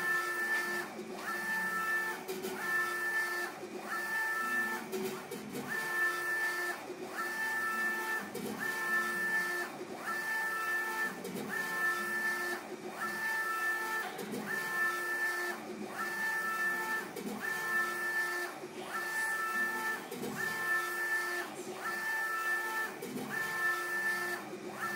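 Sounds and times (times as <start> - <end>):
printer carriage motor whine: 0.0 - 24.9.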